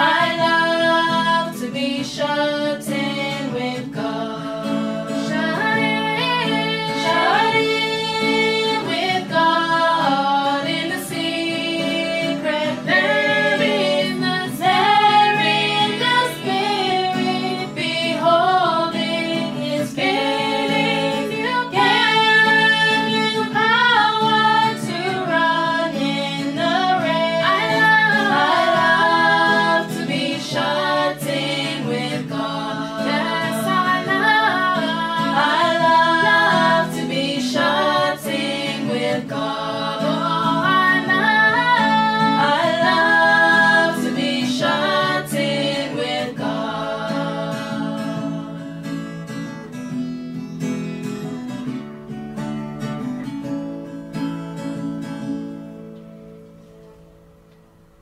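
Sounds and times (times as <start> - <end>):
choir singing a hymn: 0.0 - 48.9
guitar playing: 0.0 - 58.0.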